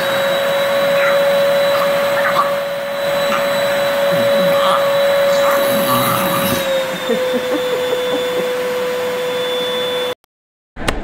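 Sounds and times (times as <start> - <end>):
vacuum cleaner suction whine: 0.0 - 10.2.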